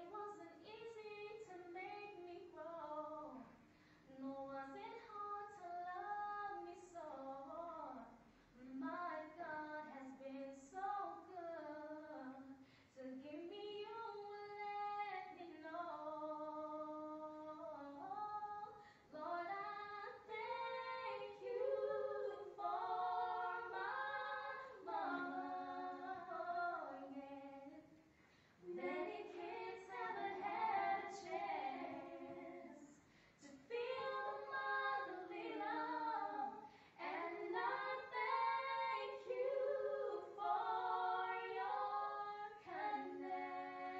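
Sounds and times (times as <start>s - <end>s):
girls singing unaccompanied: 0.0s - 3.5s, 4.2s - 28.0s, 28.6s - 43.9s.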